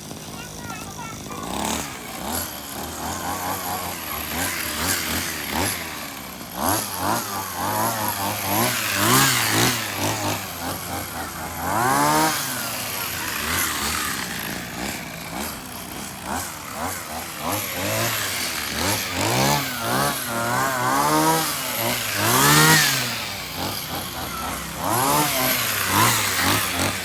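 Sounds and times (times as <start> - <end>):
grass trimmer engine revving: 0.0 - 27.0.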